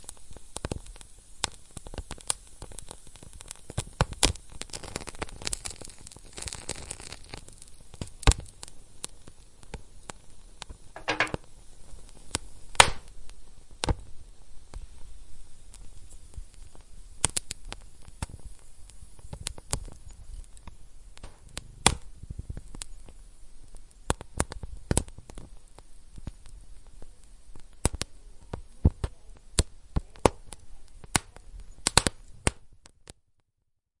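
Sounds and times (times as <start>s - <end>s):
wood fire crackling: 0.0s - 33.2s.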